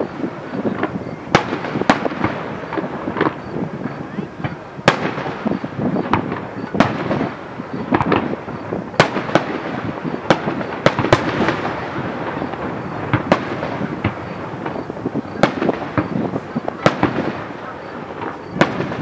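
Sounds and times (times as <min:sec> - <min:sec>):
fireworks crackle and rumble: 0:00.0 - 0:19.0
fireworks shells bursting: 0:00.0 - 0:19.0.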